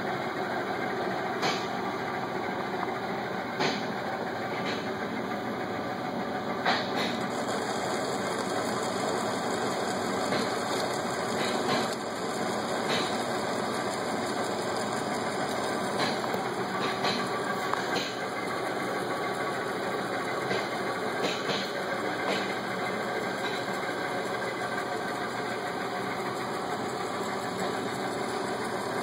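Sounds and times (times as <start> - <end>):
lathe mechanical whir: 0.0 - 29.0.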